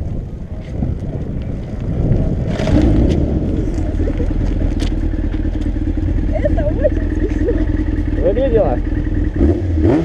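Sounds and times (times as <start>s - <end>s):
motorcycle engine running: 0.0s - 10.0s
road and wind rumble: 0.0s - 10.0s.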